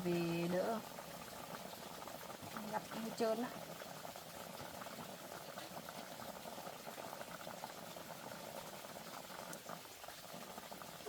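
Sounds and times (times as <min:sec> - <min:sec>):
pot of water boiling: 0:00.0 - 0:11.0.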